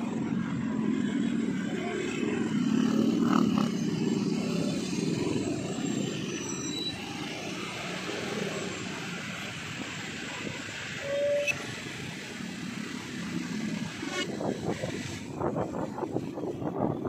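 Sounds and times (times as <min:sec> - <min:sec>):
motorcycle and car engines rumbling: 0:00.0 - 0:17.0.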